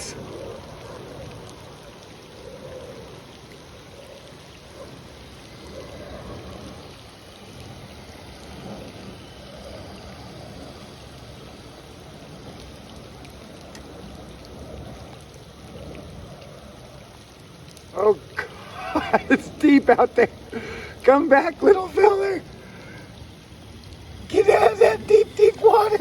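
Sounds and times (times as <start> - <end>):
rain ticking: 0.0 - 26.0.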